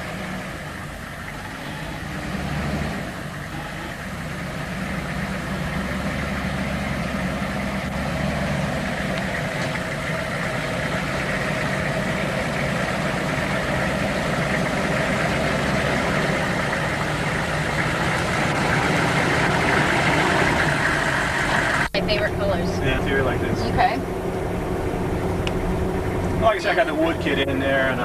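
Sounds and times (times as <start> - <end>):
truck engine running slowly: 0.0 - 28.0.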